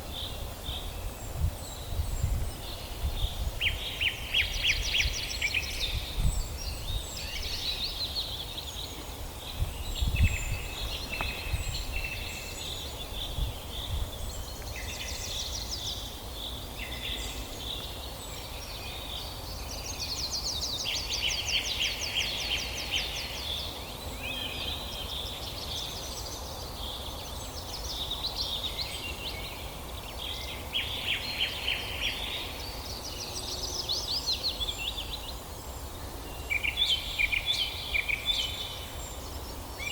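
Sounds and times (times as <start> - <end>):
songbirds singing in chorus: 0.0 - 39.9.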